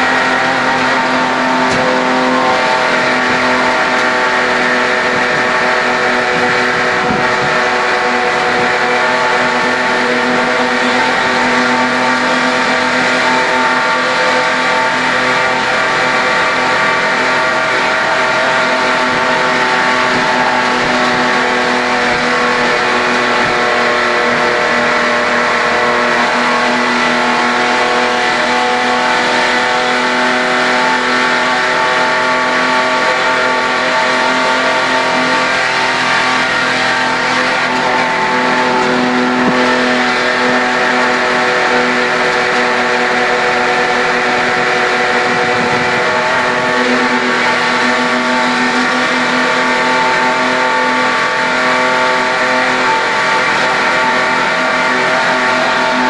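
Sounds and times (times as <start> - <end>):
race car engine at high revs: 0.0 - 56.0
wind and road noise: 0.0 - 56.0.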